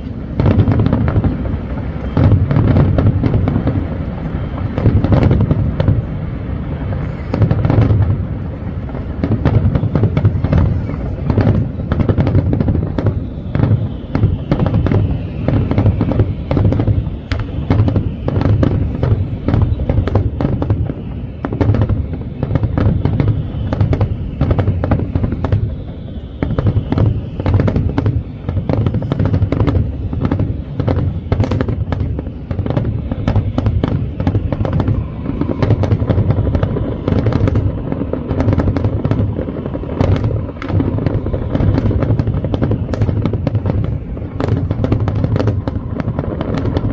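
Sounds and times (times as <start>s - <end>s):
fireworks booming: 0.0s - 46.9s
fireworks cracking: 0.0s - 46.9s.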